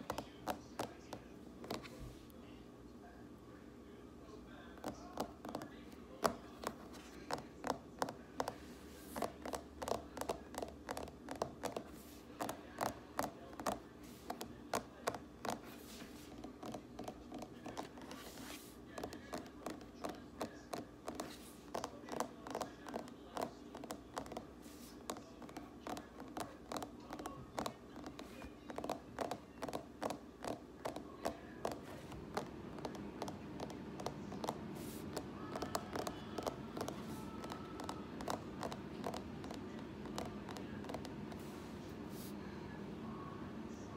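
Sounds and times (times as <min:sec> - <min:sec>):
fingers tapping hard surface: 0:00.0 - 0:02.0, 0:04.8 - 0:41.6.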